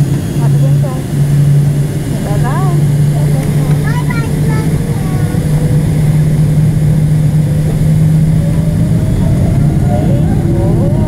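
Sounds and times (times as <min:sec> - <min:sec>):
jet engine cabin drone: 0:00.0 - 0:11.0.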